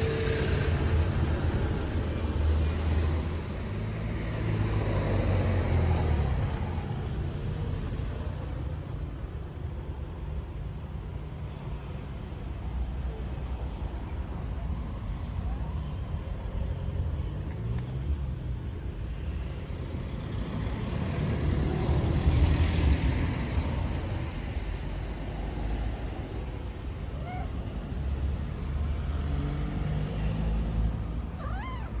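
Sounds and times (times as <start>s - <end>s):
traffic engines rumbling: 0.0s - 32.0s.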